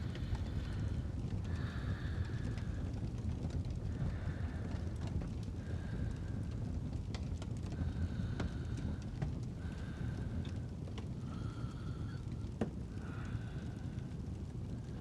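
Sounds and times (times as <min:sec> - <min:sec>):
fireplace crackling and popping: 0:00.0 - 0:15.0
low fire rumble: 0:00.0 - 0:15.0
soft sleep breathing: 0:00.0 - 0:15.0.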